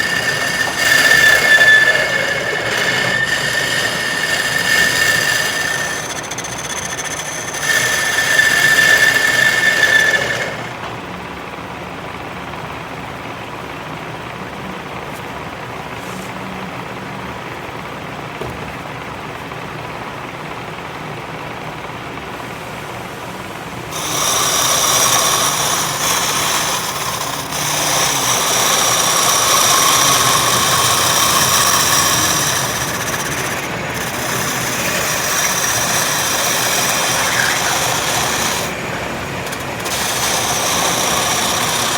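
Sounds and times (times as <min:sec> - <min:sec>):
power machinery whining and grinding: 0:00.0 - 0:41.9.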